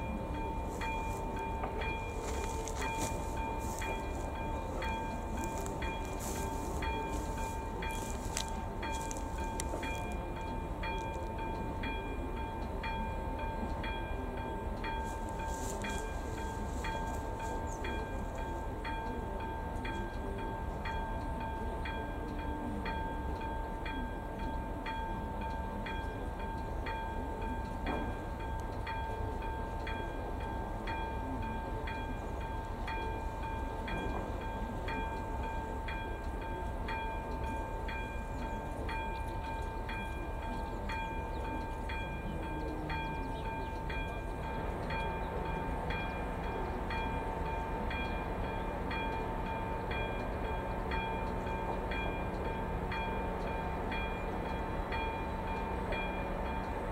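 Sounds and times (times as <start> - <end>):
level crossing warning bell: 0.0 - 56.9.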